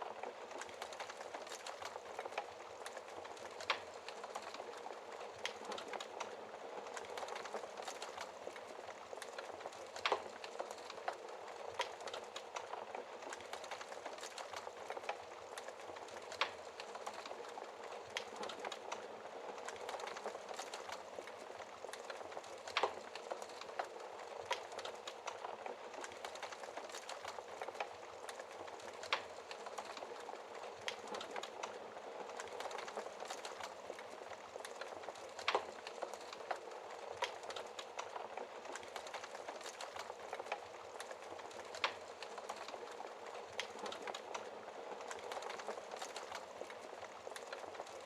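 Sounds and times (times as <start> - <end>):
fireplace fire crackling: 0.0 - 48.0.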